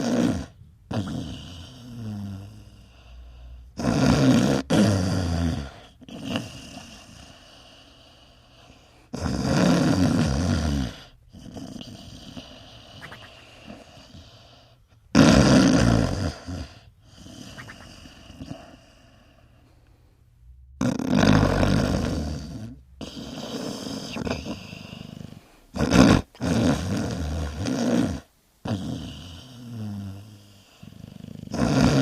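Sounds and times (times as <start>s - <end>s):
dog snoring: 0.0s - 19.6s, 20.8s - 32.0s.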